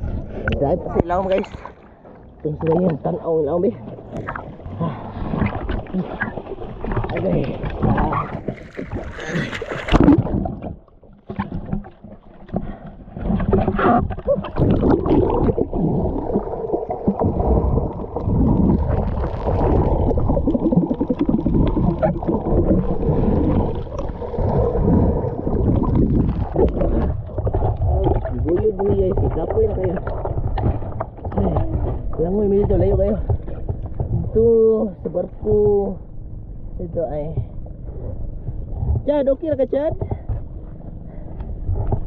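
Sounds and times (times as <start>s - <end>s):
water splash: 0.0s - 34.4s
water sloshing and gurgling: 0.0s - 42.0s.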